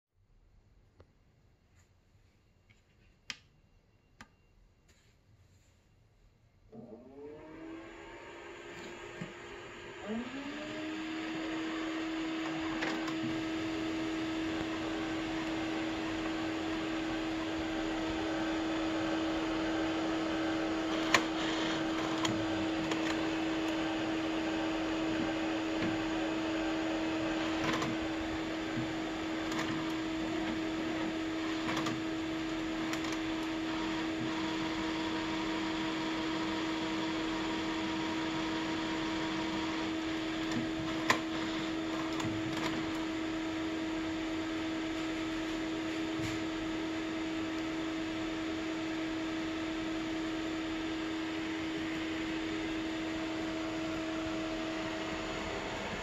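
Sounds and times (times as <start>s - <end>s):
cooling fans humming: 7.2s - 56.0s.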